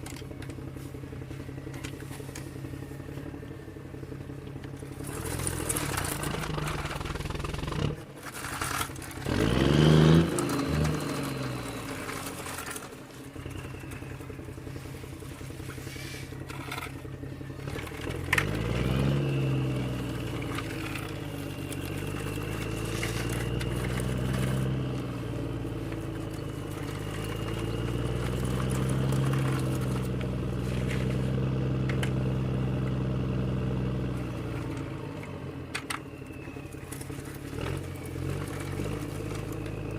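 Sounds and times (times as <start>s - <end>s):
engine revving: 3.6s - 35.9s, 36.9s - 39.9s.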